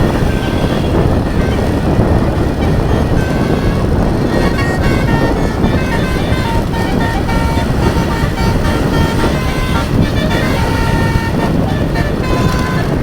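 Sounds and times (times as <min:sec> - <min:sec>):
engine and traffic rumble: 0:00.0 - 0:13.0
multi-tone bus horn melody: 0:00.0 - 0:13.0.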